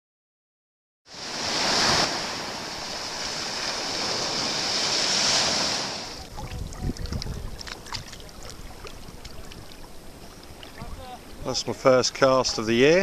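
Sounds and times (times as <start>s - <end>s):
sea water washing: 1.1s - 13.0s
water lapping: 1.2s - 13.0s.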